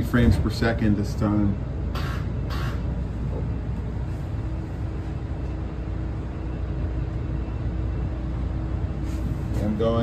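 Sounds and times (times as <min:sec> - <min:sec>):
low rumble and hum in train car: 0:00.0 - 0:10.0.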